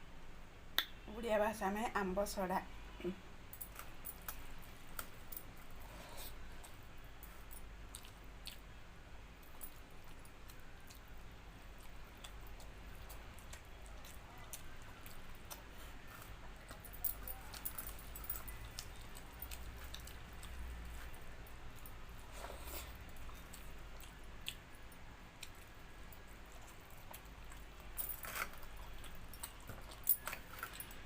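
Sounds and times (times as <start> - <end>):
person chewing food: 3.7 - 8.8, 9.5 - 31.0.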